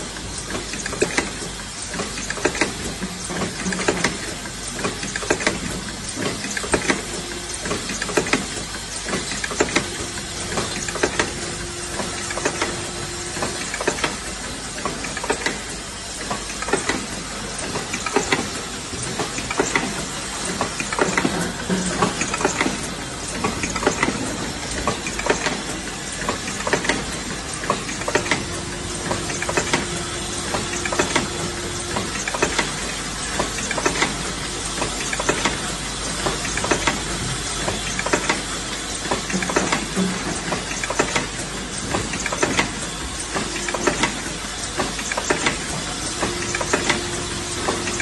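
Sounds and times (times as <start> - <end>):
machine hissing: 0.0 - 48.0
mechanism clicks and clacks: 0.0 - 48.0.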